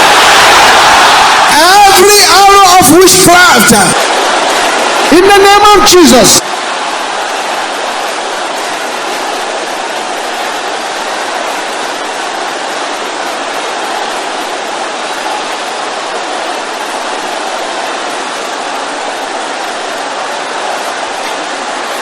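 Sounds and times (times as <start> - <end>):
congregation praying aloud: 0.0 - 22.0.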